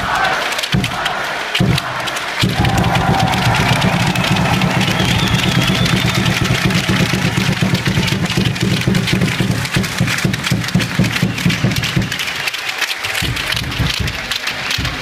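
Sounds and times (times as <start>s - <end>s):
crowd cheering and clapping: 0.0s - 15.0s
hand clappers clacking: 0.4s - 15.0s.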